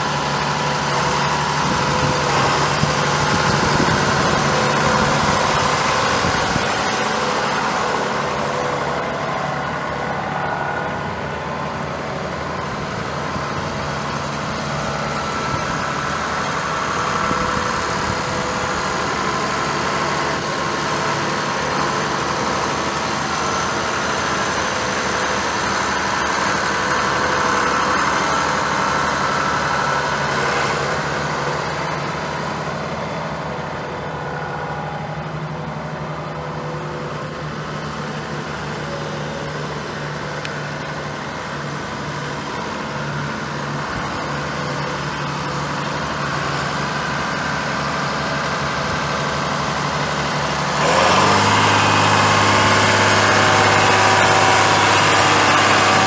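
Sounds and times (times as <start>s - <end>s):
tractor diesel engine driving by: 0.0s - 56.0s.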